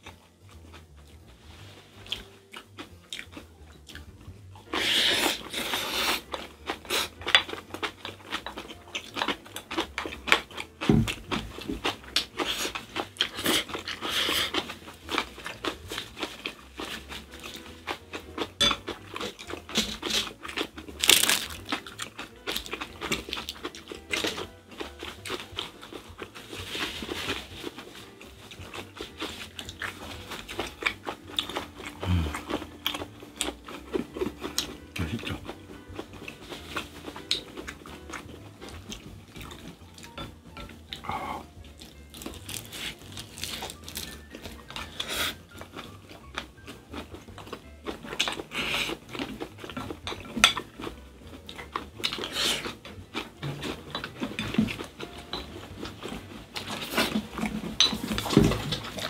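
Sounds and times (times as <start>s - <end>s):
people chewing: 0.0s - 59.0s.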